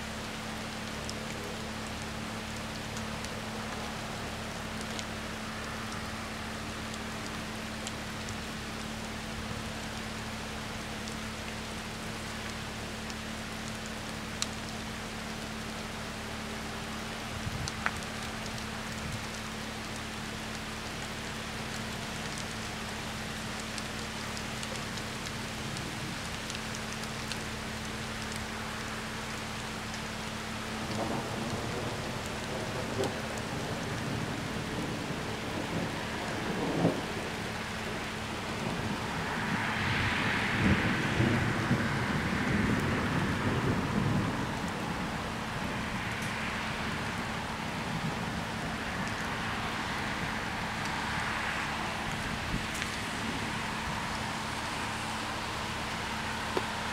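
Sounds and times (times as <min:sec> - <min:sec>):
rain on wet pavement: 0:00.0 - 0:56.9.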